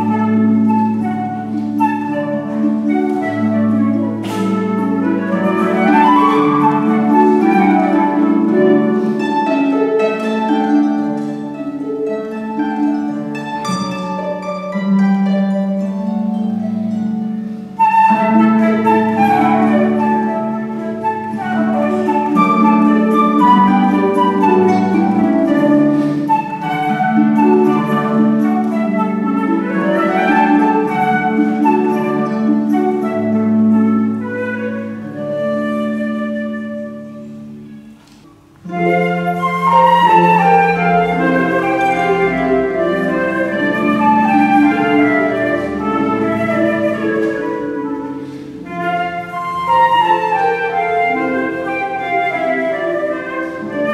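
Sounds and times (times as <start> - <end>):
flute melody: 0.0 - 53.9.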